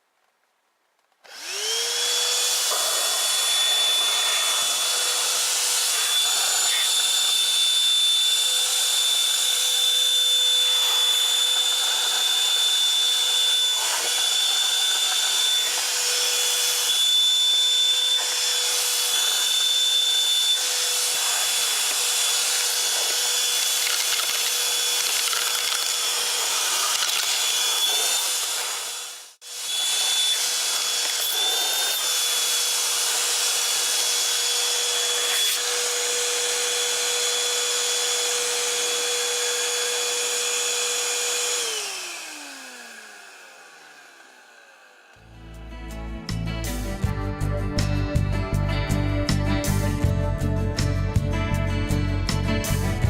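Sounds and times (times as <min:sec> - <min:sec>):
handheld vacuum cleaner whine: 0:01.2 - 0:45.5.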